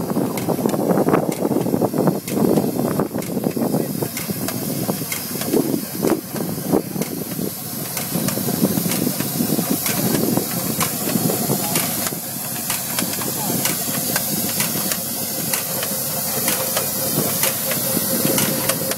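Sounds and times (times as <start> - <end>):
planting machine hissing: 0.0 - 18.9.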